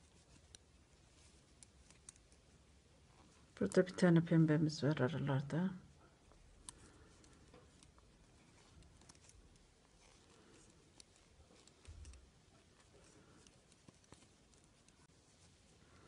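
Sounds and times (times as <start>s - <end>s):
knitting needles ticking: 0.0s - 4.2s, 6.1s - 16.0s.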